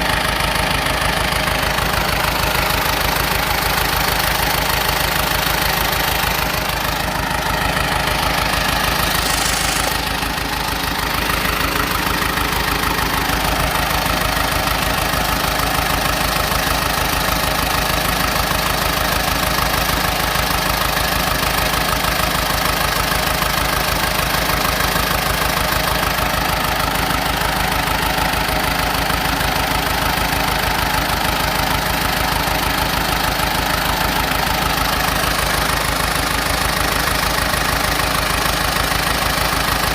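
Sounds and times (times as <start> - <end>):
bulldozer diesel engine chugging: 0.0 - 39.9.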